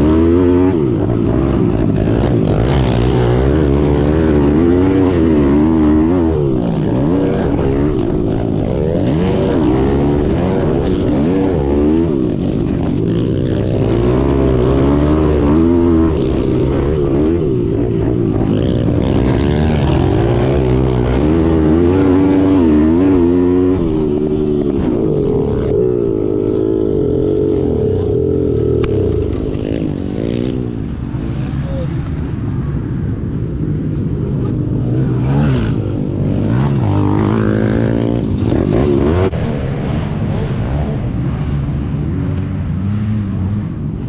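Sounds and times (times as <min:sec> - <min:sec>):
pit bike engines revving: 0:00.0 - 0:44.0.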